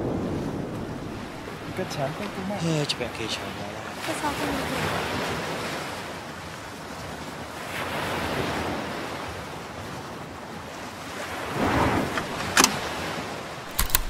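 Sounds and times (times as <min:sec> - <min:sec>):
sea waves washing on beach: 0:00.0 - 0:14.0.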